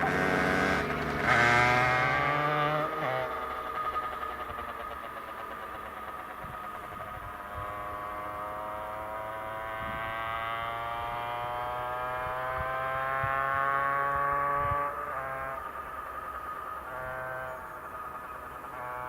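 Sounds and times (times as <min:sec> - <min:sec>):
propeller engine running: 0:00.0 - 0:19.0.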